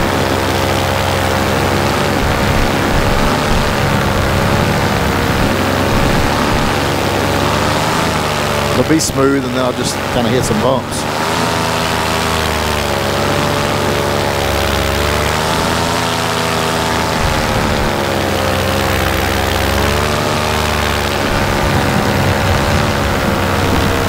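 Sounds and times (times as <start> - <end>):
paramotor engine and propeller: 0.0 - 24.0.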